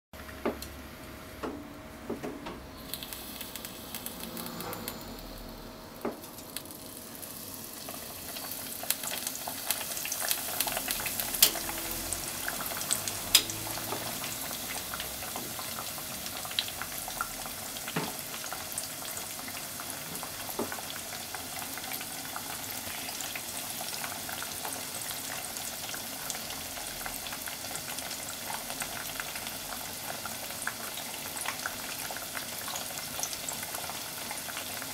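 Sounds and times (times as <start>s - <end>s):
deep-frying sizzle: 0.2s - 34.9s.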